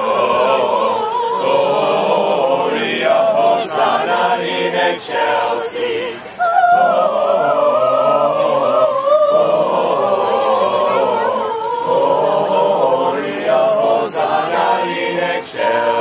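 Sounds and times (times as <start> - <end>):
group singing a carol: 0.0 - 16.0.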